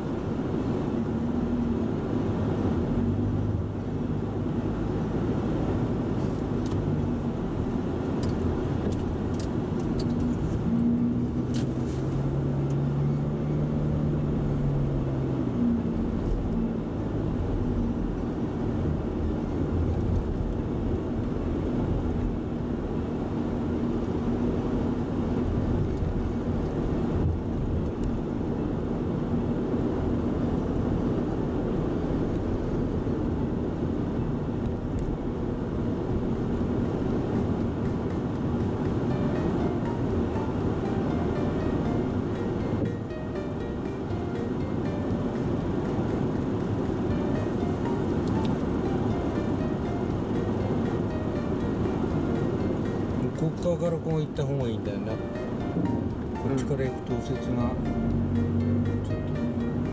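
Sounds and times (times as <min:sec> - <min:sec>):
minivan road and engine rumble: 0:00.0 - 0:59.9.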